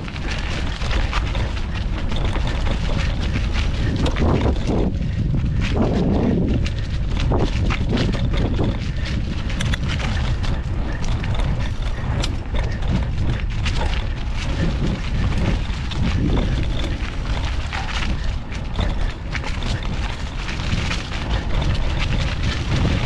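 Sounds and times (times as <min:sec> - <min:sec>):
bike rattling and knocking: 0:00.0 - 0:23.0
wind buffeting microphone: 0:00.0 - 0:23.0.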